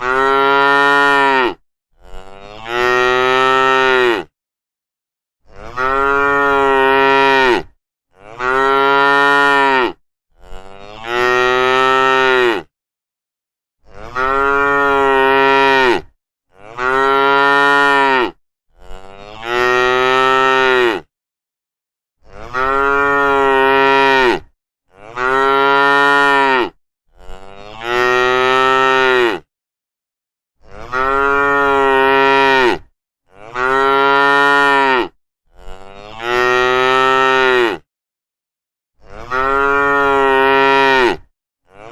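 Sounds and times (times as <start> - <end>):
cows mooing: 0.0 - 4.3, 5.5 - 12.7, 13.9 - 21.1, 22.3 - 29.5, 30.7 - 37.8, 39.1 - 41.9.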